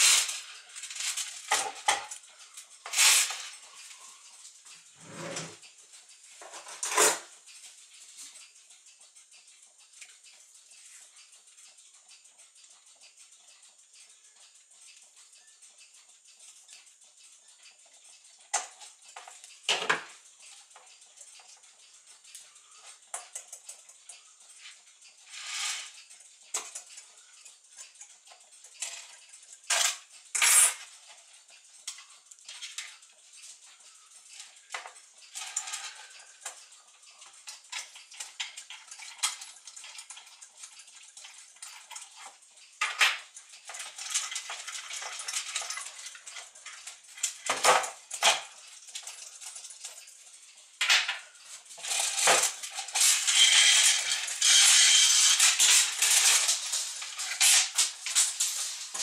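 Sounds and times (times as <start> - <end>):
metallic clicks and clinks: 0.0 - 59.0.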